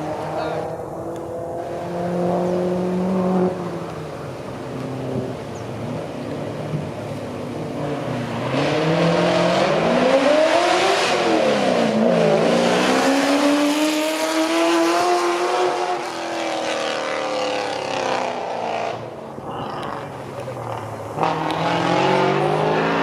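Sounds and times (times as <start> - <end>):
race car engine accelerating: 0.0 - 19.2, 19.8 - 23.0.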